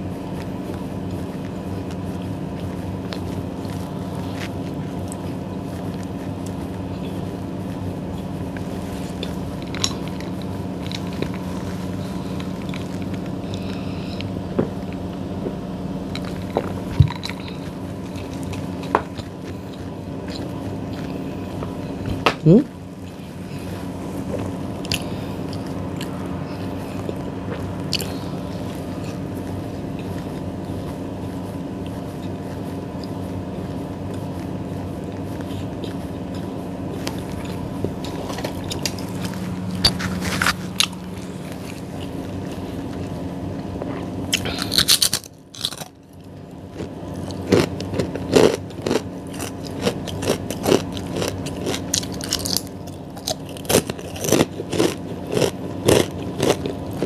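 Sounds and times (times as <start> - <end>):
chewing bread with mouth clicks: 0.0 - 57.0
steady droning hum: 0.0 - 57.0.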